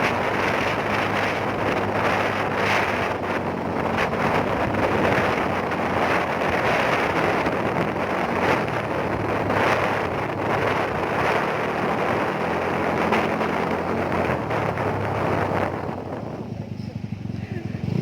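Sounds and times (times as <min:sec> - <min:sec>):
motorcycle engine hum: 0:00.0 - 0:18.0
wind rushing over microphone: 0:00.0 - 0:18.0.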